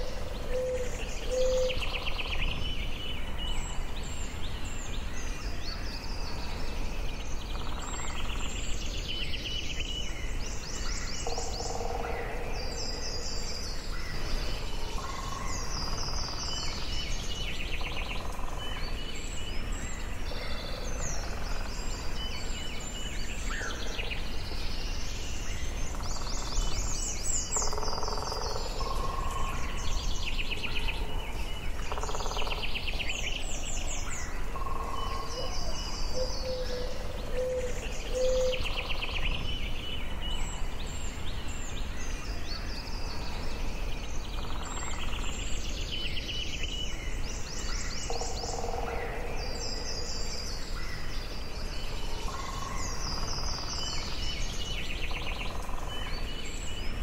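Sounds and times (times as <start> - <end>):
songbirds singing and calling: 0.0 - 57.0.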